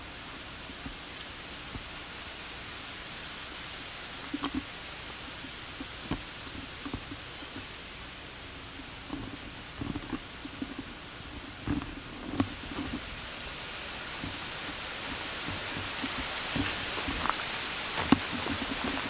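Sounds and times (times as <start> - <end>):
camcorder tape hiss: 0.0 - 19.0.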